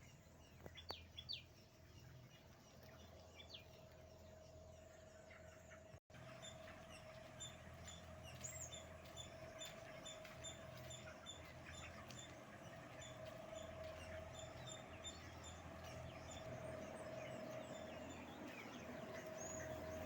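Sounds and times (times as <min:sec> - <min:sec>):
chickens peeping and chirping: 0:00.5 - 0:20.0
machine hum: 0:01.8 - 0:20.0.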